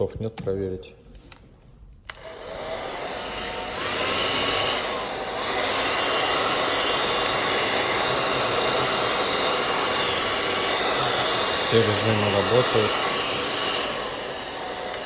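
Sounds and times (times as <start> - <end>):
hair dryer blowing: 2.1 - 15.0.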